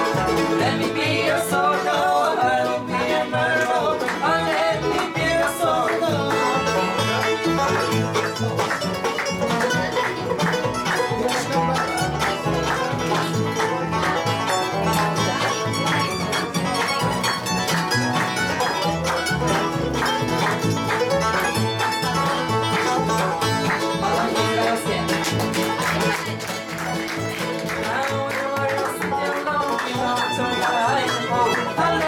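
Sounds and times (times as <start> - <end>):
bluegrass band playing: 0.0 - 32.0
mandolin picking lead: 0.0 - 32.0.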